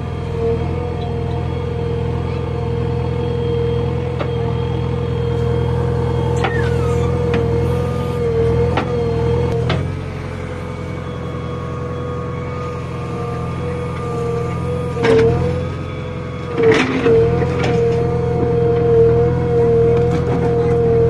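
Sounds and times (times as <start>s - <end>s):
diesel engine under load: 0.0s - 21.0s
hydraulic whine: 0.0s - 21.0s.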